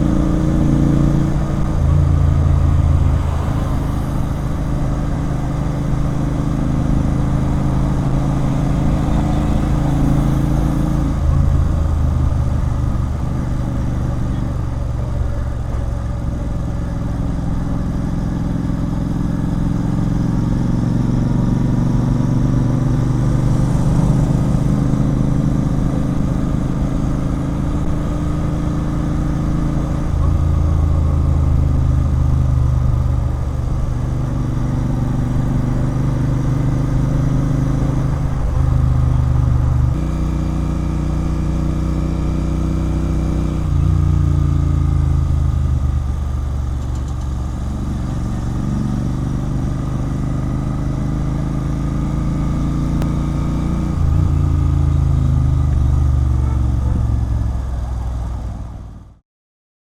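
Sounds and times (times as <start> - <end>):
motorcycle engine running: 0.0 - 59.1.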